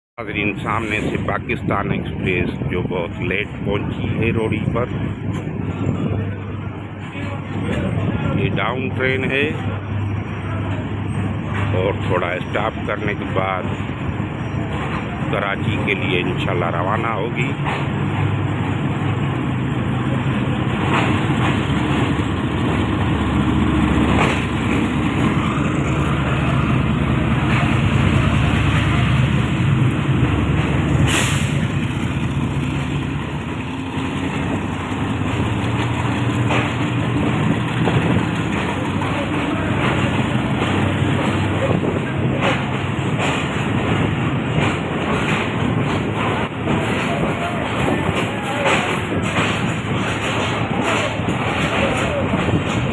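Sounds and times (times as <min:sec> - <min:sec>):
diesel locomotive rumbling: 0:00.2 - 0:52.9.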